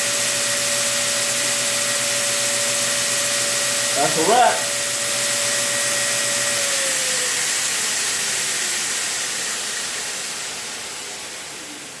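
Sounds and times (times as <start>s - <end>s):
belt grinder spinning down: 0.0s - 12.0s
motor whine sliding down: 0.0s - 12.0s.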